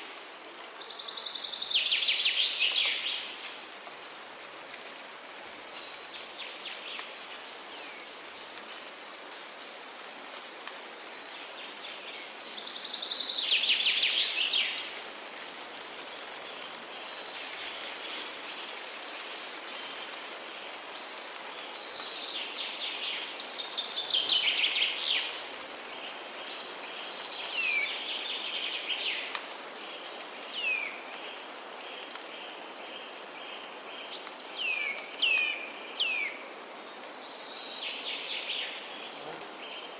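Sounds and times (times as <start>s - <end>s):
high insect hiss: 0.0s - 39.9s.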